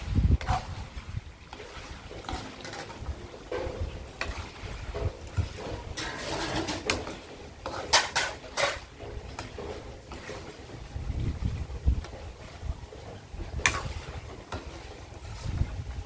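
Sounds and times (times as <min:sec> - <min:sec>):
pork frying: 0:00.0 - 0:16.0
metal spatula scraping wok: 0:00.3 - 0:16.0.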